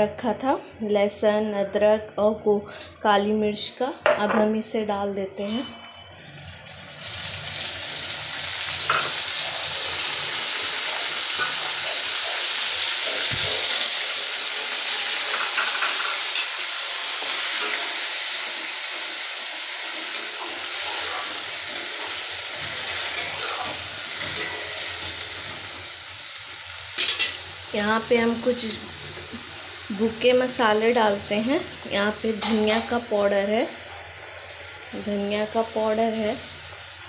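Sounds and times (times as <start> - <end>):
paste sizzling in hot oil: 6.5 - 37.0.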